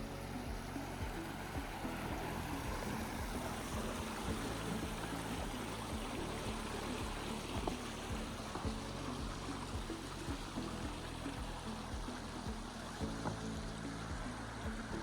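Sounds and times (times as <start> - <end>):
faint low knocks: 0.0 - 15.0
soft background music: 0.0 - 15.0
stream rushing over rocks: 0.0 - 15.0.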